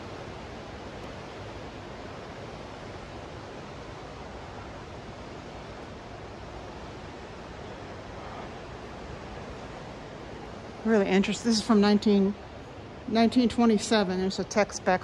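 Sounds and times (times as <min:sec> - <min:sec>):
indoor hall background hiss: 0:00.0 - 0:15.0.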